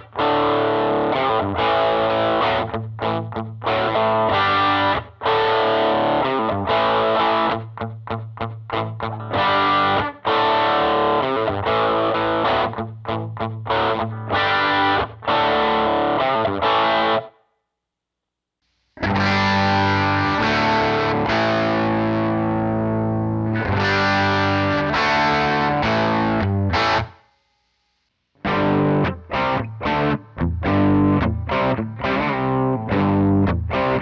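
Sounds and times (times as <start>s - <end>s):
distorted electric guitar chords: 0.0s - 17.4s, 19.0s - 27.2s, 28.4s - 34.0s.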